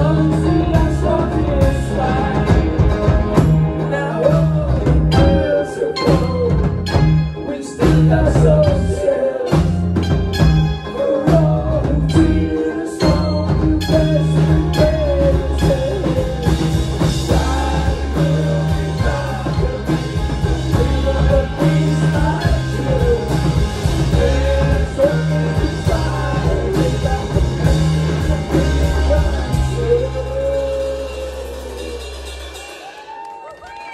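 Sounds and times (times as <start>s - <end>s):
man singing lead: 0.0s - 32.6s
heavy bass: 0.0s - 33.0s
guitars: 0.0s - 33.1s
drum kit: 0.0s - 33.9s.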